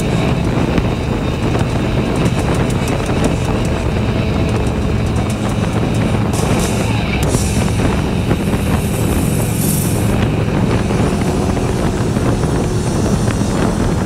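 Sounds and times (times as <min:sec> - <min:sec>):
motorcycle engine cruising: 0:00.0 - 0:14.0
wind noise on microphone: 0:00.0 - 0:14.0.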